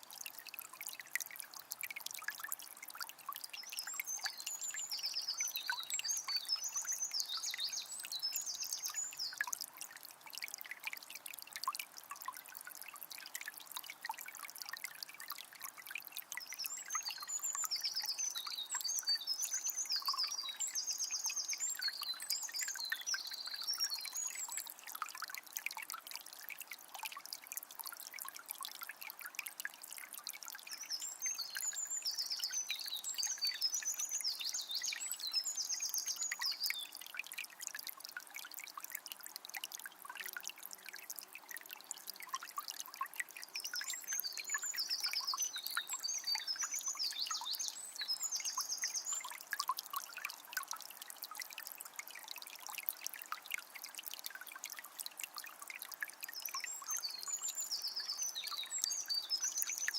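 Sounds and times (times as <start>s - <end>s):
spring water trickling and splashing: 0.0s - 59.9s.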